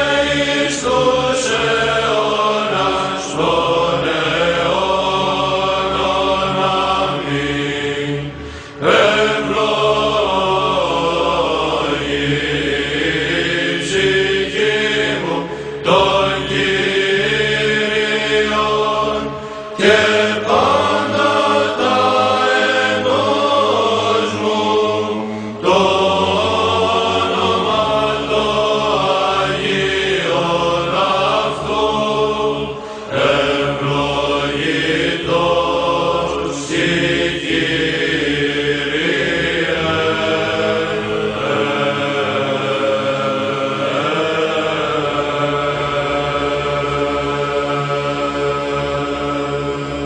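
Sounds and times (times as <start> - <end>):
male choir chanting: 0.0 - 50.0.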